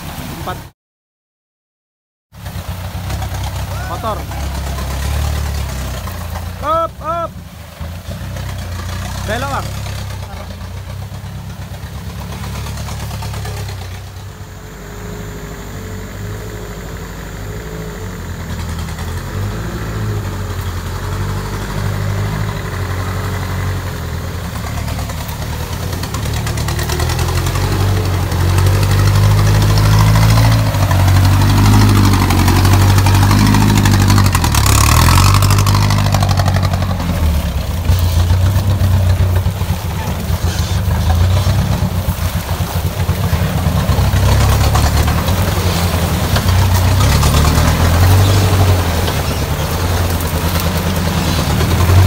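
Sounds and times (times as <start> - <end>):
truck diesel engine running: 2.4 - 52.0.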